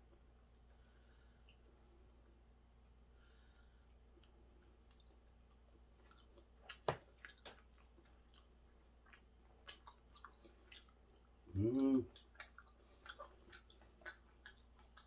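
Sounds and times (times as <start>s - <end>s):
person chewing with clicks and smacks: 0.0s - 3.0s, 3.7s - 15.0s.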